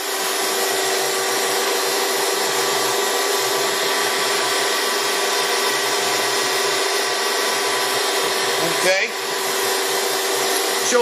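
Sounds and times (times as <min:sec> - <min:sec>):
lathe running with steady whir: 0:00.0 - 0:11.0.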